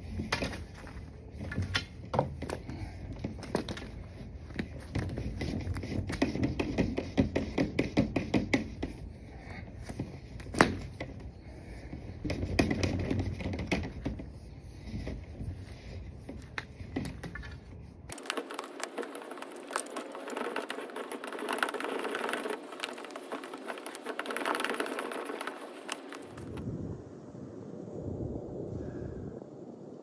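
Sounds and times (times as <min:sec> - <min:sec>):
scraping and tapping on vent duct: 0:00.0 - 0:26.6.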